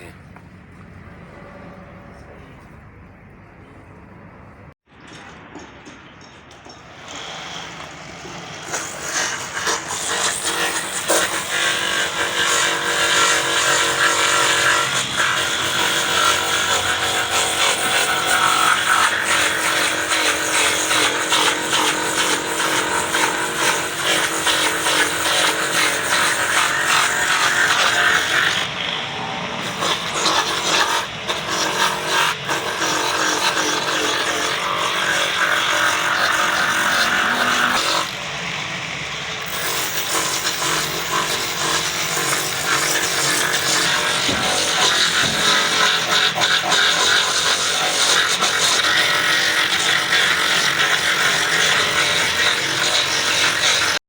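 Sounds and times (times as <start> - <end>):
motor-driven machine running: 7.7 - 54.0.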